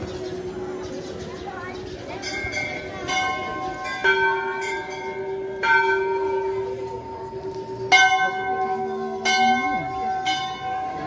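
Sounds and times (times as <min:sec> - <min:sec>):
temple bells ringing: 0:00.0 - 0:11.0.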